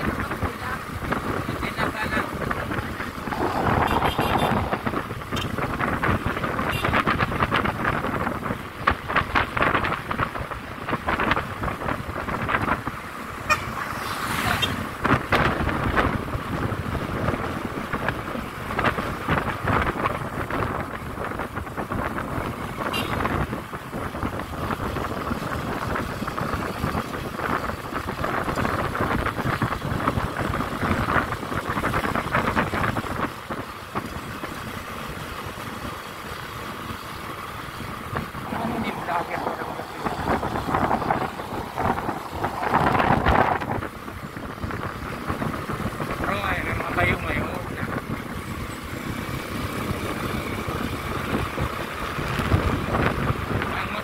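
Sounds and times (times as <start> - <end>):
vehicle running: 0.0 - 54.0
wind buffeting microphone: 0.0 - 54.0.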